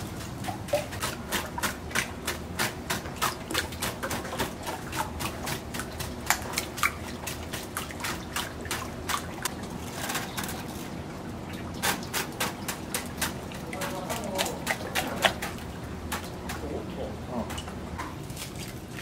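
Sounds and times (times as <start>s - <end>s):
liquid egg sloshing: 0.0s - 19.0s.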